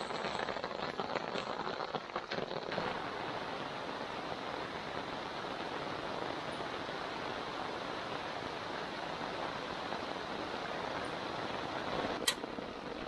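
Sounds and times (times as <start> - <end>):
rain on a tarp: 0.0 - 13.0
raindrops ticking close by: 0.0 - 13.0.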